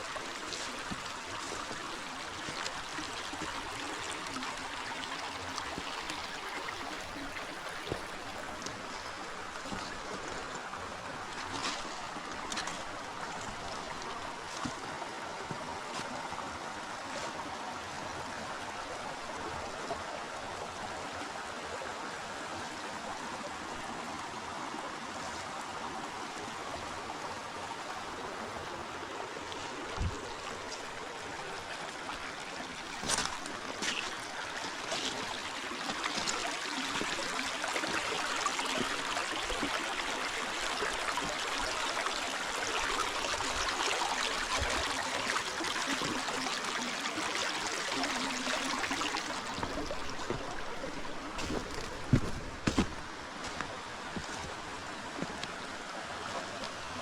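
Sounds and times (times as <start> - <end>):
river water rushing: 0.0 - 22.2, 24.6 - 57.0.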